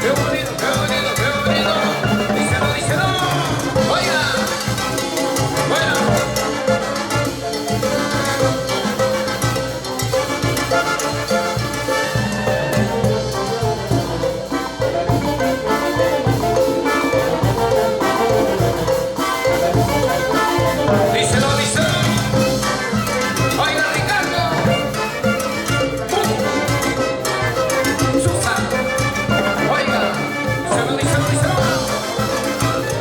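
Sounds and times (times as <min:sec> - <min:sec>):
brass band playing cumbia: 0:00.0 - 0:33.0.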